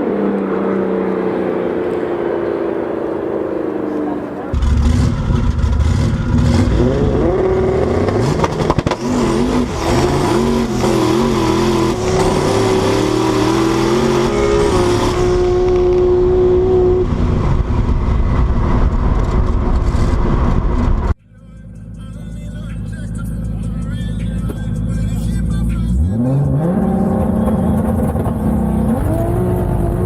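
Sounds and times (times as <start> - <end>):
race car engines at full throttle: 0.0 - 30.0.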